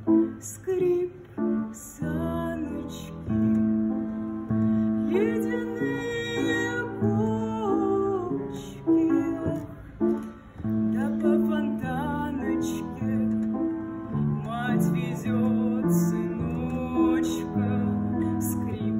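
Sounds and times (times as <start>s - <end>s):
slow instrumental music: 0.0s - 18.9s.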